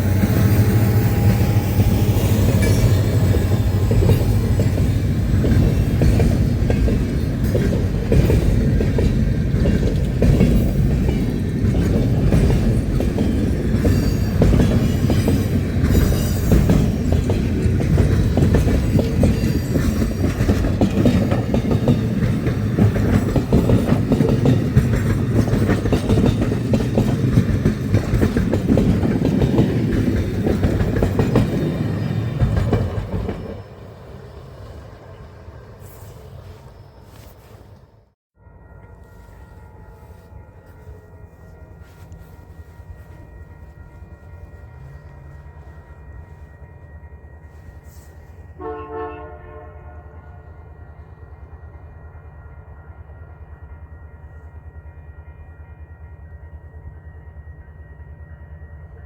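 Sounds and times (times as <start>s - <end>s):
train cars rumbling past: 0.0s - 57.7s.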